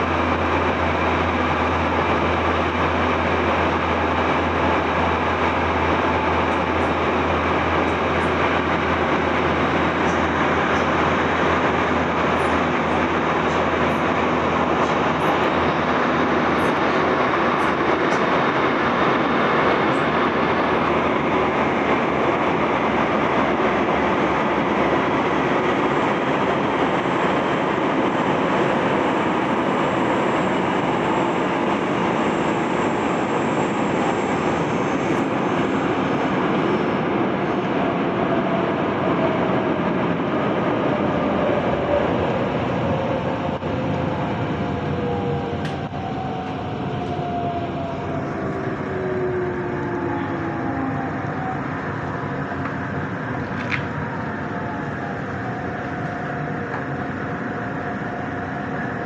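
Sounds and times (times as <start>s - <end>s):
train rumbling through tunnel: 0.0s - 59.0s.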